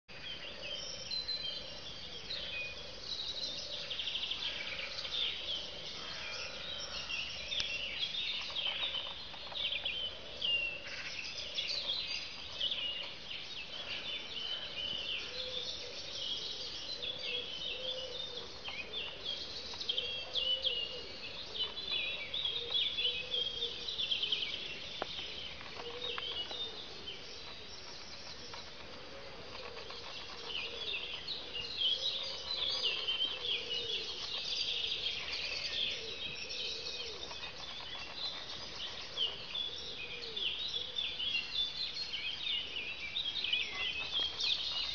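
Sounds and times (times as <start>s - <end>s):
birds chirping and trilling: 0.0s - 44.9s.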